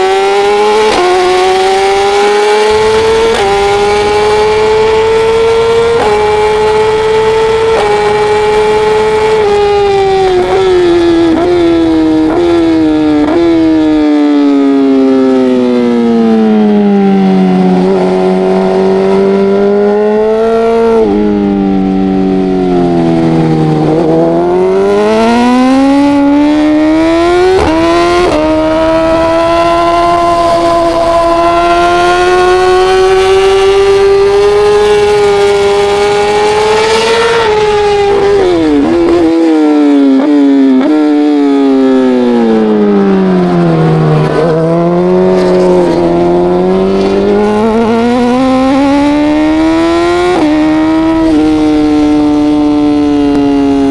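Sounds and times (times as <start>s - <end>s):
racing motorcycle engine revving: 0.0s - 53.9s.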